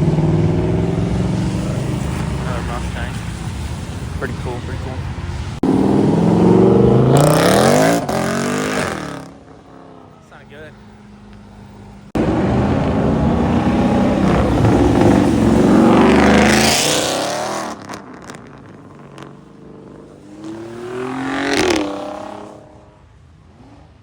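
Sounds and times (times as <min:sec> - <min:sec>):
car engine revving hard: 0:00.0 - 0:10.1, 0:12.2 - 0:24.0
second car accelerating past: 0:00.0 - 0:24.0.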